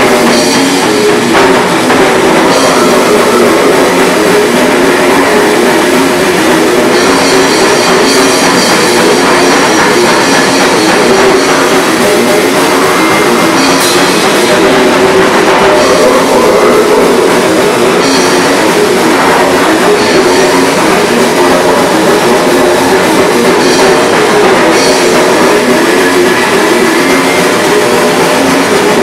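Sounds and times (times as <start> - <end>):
bass guitar: 0.0 - 29.0
drum kit: 0.0 - 29.0
electric guitar: 0.0 - 29.0.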